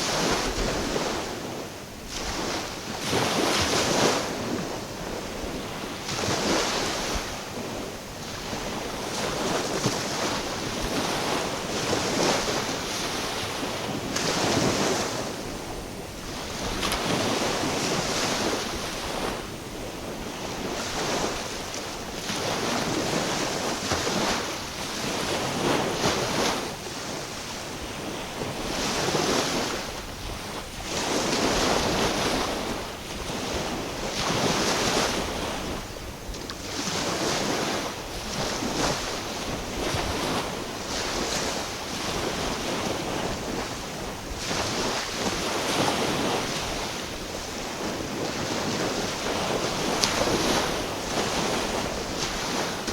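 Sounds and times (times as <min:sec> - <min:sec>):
small waves washing in: 0:00.0 - 0:52.9.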